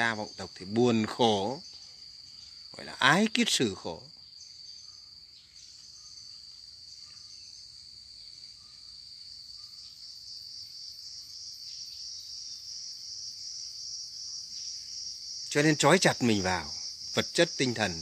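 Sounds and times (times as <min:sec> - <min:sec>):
insects droning high-pitched: 0:00.0 - 0:18.0.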